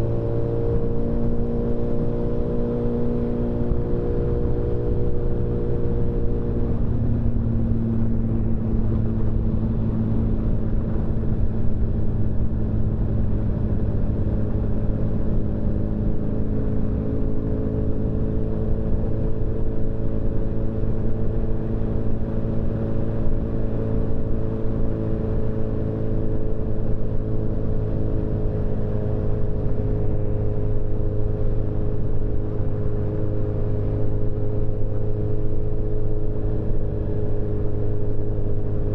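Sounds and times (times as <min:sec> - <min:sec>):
low wind rumble: 0:03.0 - 0:38.9.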